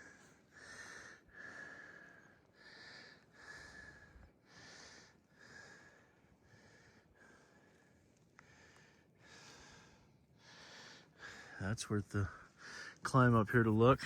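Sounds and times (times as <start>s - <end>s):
person breathing hard: 0.0s - 11.6s, 12.4s - 13.0s.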